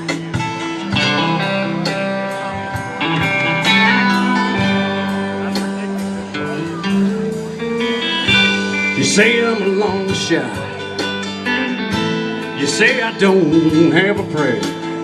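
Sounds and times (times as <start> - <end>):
steady drum beat: 0.0 - 15.0
strummed guitar chords: 0.0 - 15.0.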